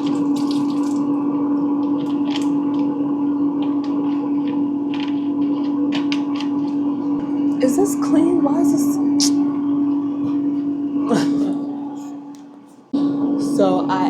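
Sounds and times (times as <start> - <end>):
kitchen appliance humming: 0.0 - 14.0.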